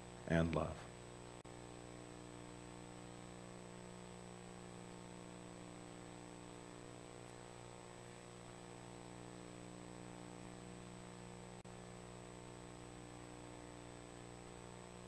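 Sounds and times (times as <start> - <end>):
electrical mains hum: 0.0 - 15.0
faint high whine and hiss: 0.0 - 15.0.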